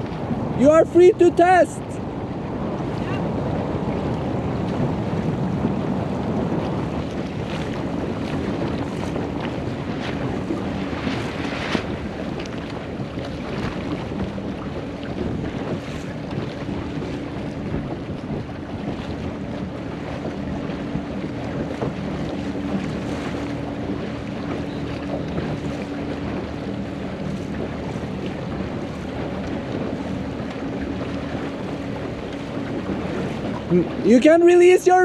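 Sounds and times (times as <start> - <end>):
outboard motor humming: 0.0 - 35.0
water rushing past hull: 0.0 - 35.0
wind noise on microphone: 0.0 - 35.0.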